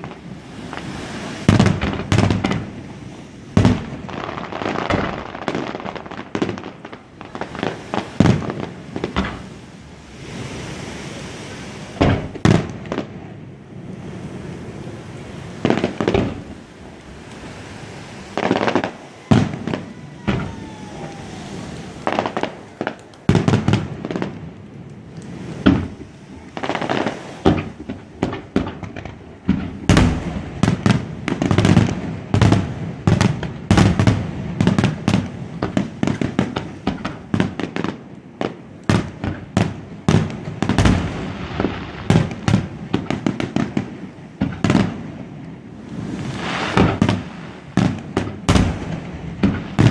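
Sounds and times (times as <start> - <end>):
fireworks bangs with echoes: 0.0 - 9.6, 11.9 - 13.4, 15.5 - 16.5, 17.7 - 24.5, 25.4 - 49.9.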